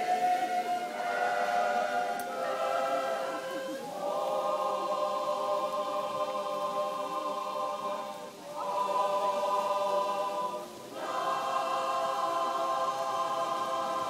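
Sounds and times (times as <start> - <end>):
choir singing unaccompanied: 0.0 - 14.0.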